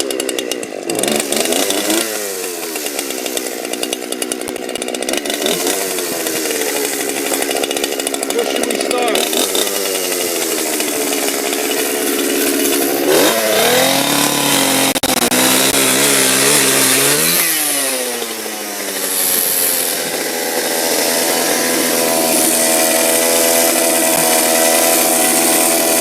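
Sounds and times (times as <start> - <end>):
two-stroke chainsaw revving: 0.0 - 26.0.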